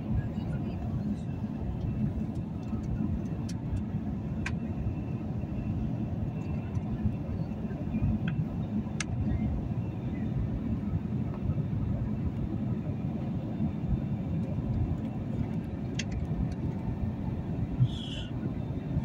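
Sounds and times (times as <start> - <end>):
airliner cabin rumble in flight: 0.0 - 19.0.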